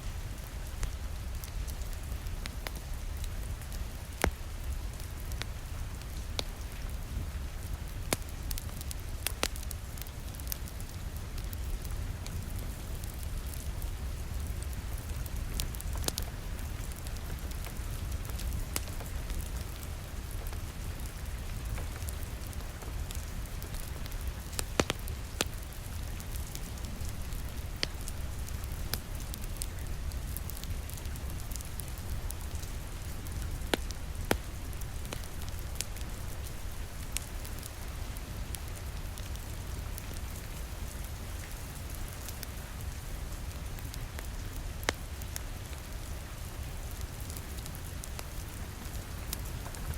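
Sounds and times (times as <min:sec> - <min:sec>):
fireplace fire crackling: 0:00.0 - 0:49.9
rain pattering on a window: 0:00.0 - 0:49.9.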